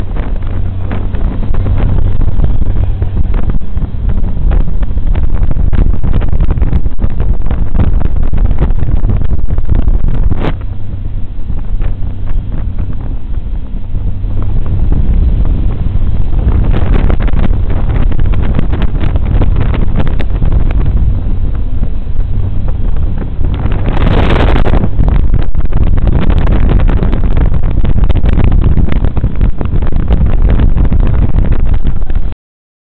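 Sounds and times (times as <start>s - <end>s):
boat engine: 0.0s - 32.3s
rushing water: 0.0s - 32.3s
wind buffeting microphone: 0.0s - 32.3s.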